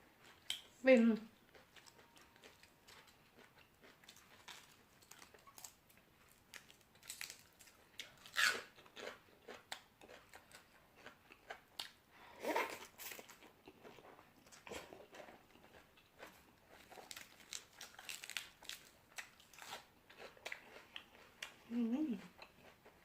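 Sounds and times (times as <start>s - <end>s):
person chewing crunchy vegetables: 1.4s - 23.0s.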